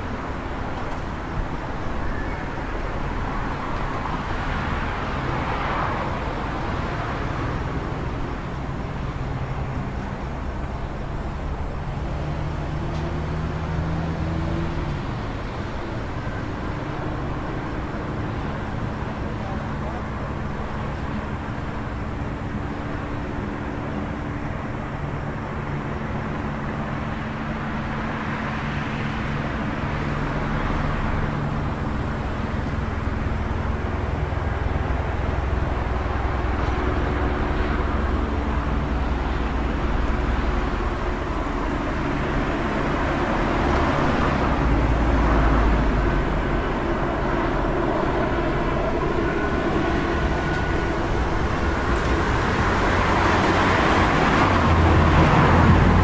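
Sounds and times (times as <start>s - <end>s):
cars passing: 0.0s - 56.0s
city street traffic rumble: 0.0s - 56.0s.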